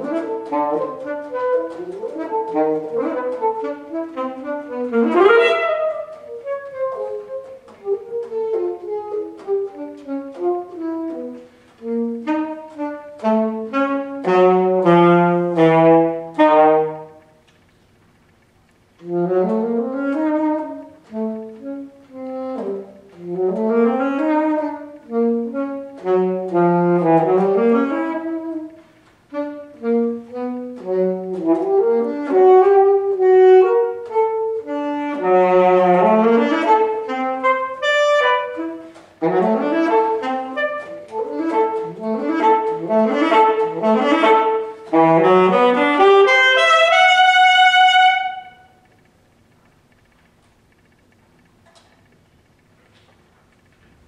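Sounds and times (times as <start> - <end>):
saxophone playing runs: 0.0 - 49.0.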